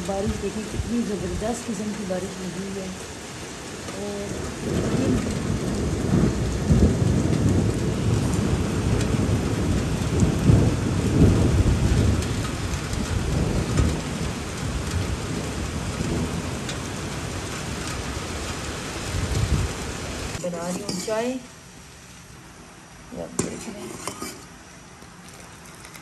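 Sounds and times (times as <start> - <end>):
heavy rain pouring: 0.0 - 23.5.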